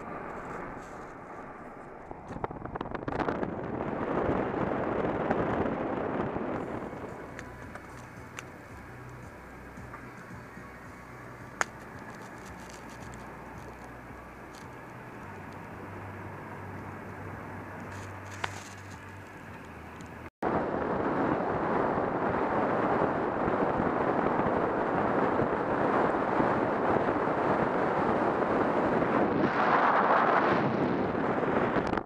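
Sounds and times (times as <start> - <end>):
car engine and road hum: 0.0 - 32.0
wind rushing over microphone: 0.0 - 32.0.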